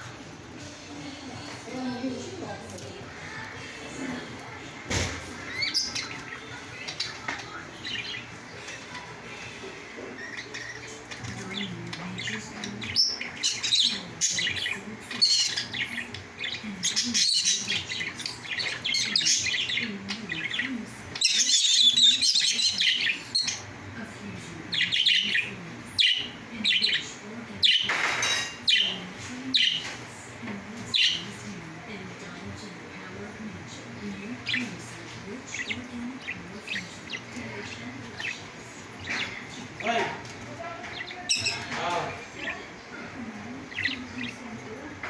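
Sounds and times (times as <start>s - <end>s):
lovebirds chirping: 1.0s - 45.0s.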